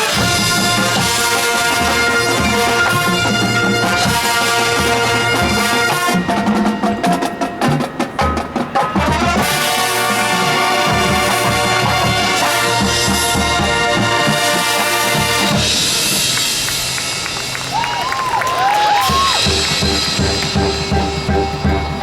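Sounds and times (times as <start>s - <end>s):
rapid drum strokes: 0.0s - 17.6s, 19.0s - 22.0s
marching band brass chords: 0.0s - 22.0s.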